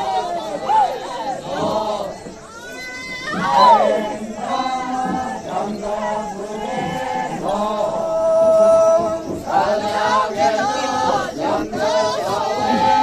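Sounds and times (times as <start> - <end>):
group chanting a folk song: 0.0 - 13.0.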